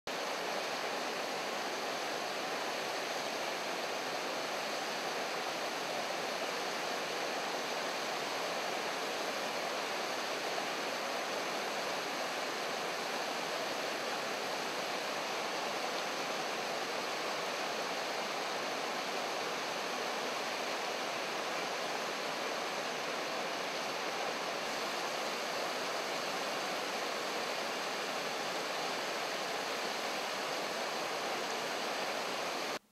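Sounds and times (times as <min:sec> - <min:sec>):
water rushing over rocks: 0:00.1 - 0:32.8.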